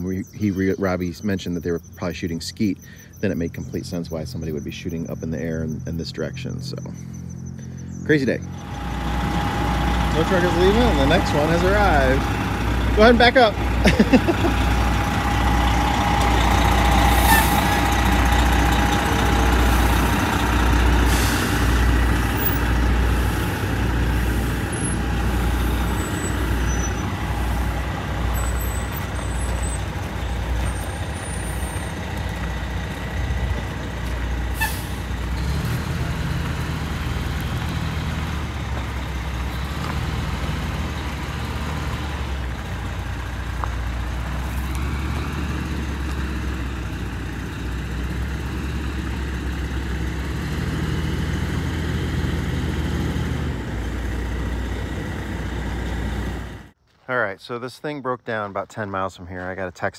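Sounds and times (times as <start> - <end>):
diesel engine running: 0.0 - 56.8.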